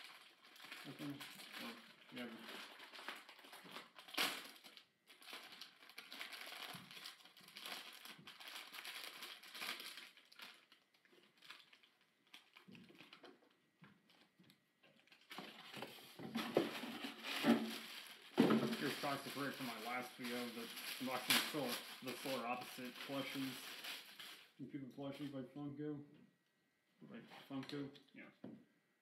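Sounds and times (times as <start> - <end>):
plastic bag crinkling: 0.0 - 24.6.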